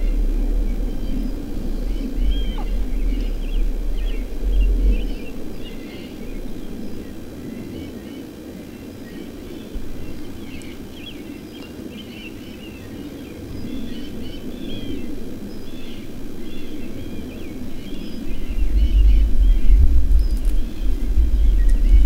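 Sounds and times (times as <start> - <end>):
loud low rumble: 0.0 - 11.2, 13.3 - 22.0
songbirds chirping: 0.0 - 22.0
steady outdoor hiss: 0.0 - 22.0.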